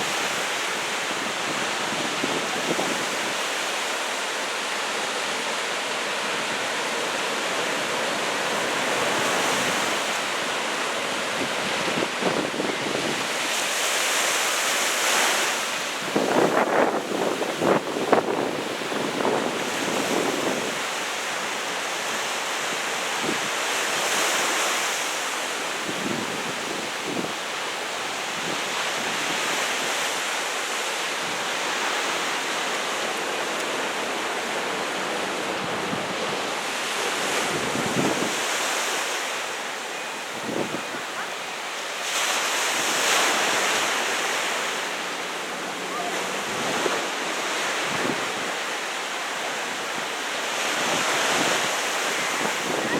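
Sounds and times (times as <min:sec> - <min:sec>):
ocean surf breaking: 0:00.0 - 0:52.9.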